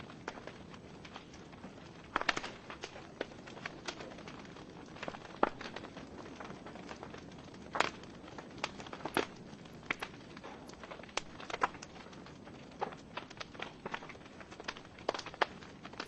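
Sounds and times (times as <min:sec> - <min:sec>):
soft steady fire hiss: 0:00.0 - 0:16.0
wood fire crackling and popping: 0:00.0 - 0:16.0.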